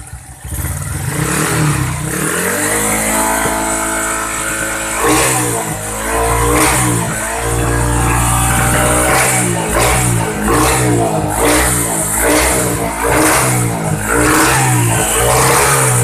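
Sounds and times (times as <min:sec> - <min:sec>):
exhaust popping cracks: 0:00.0 - 0:16.0
motorcycle engine revving: 0:00.0 - 0:16.0.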